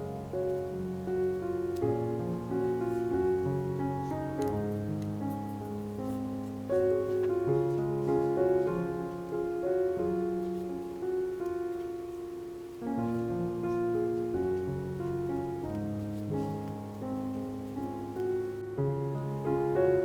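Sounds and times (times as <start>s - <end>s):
soft slow piano chords: 0.0s - 20.0s.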